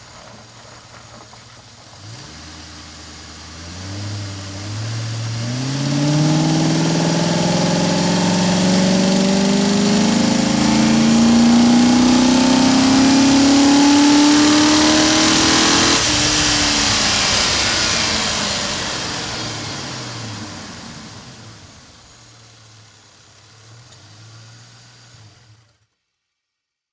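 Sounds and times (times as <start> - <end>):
car engine accelerating: 0.0 - 25.8.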